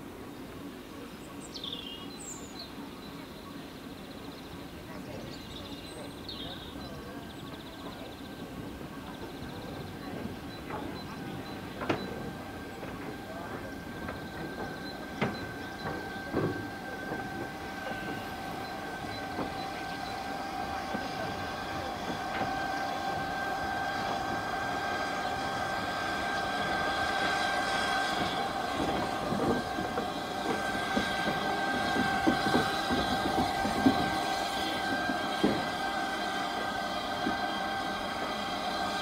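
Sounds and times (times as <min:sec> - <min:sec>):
steam hissing: 0:00.0 - 0:39.0
wheels clanking on rail joints: 0:01.3 - 0:39.0.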